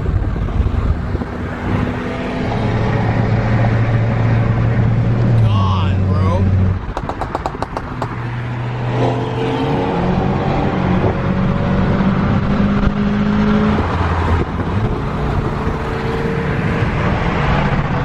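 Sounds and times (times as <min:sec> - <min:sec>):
car engine revving: 0:00.2 - 0:18.0.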